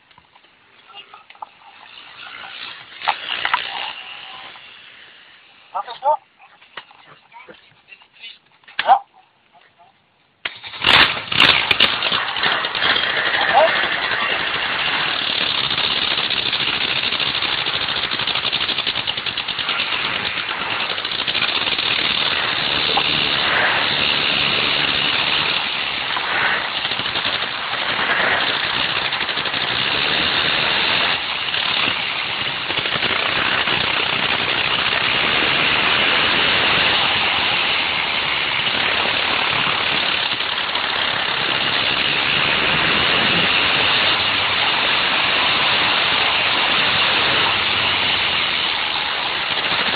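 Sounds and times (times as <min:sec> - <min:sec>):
go-kart engine running hard: 0:00.8 - 0:06.2, 0:10.5 - 0:49.9.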